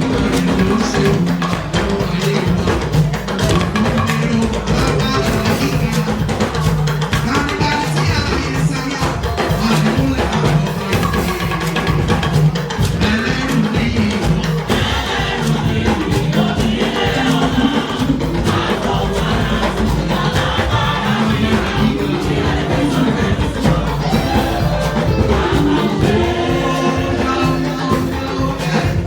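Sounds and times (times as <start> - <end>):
drum kit playing: 0.0 - 29.0
people singing: 0.0 - 29.0.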